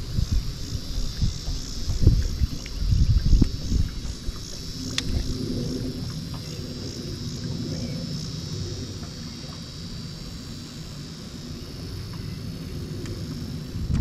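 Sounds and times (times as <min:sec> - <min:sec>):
insects droning: 0:00.0 - 0:14.0
wind rumbling on microphone: 0:00.0 - 0:14.0.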